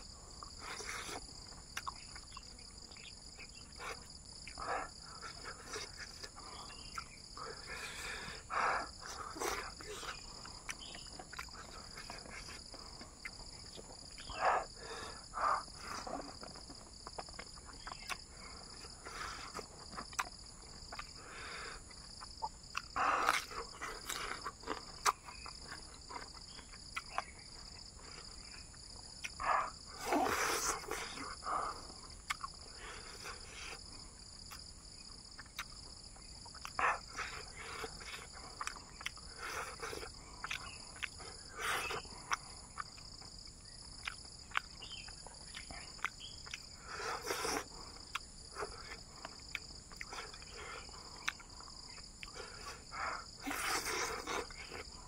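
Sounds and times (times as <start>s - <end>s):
high buzz of insects: 0.0s - 55.0s
man chewing and mouth-smacking: 0.0s - 55.0s.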